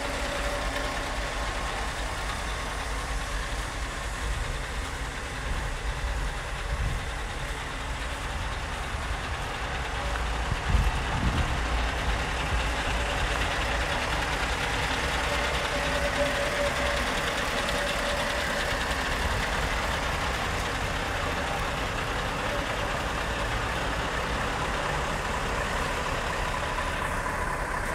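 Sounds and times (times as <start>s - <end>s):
diesel truck engine running: 0.0s - 27.9s.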